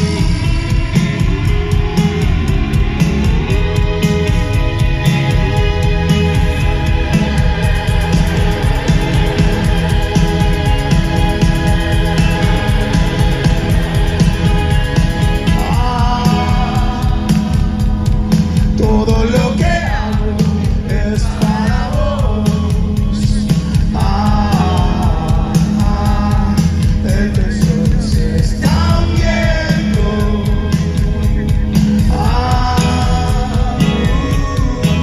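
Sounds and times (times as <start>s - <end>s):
live rock band playing: 0.0s - 35.0s
lead singer singing: 3.5s - 35.0s.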